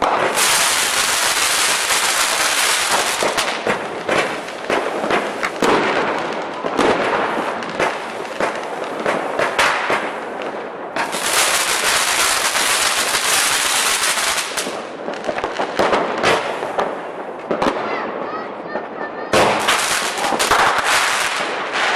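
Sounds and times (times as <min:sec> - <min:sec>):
firecrackers popping: 0:00.0 - 0:21.9.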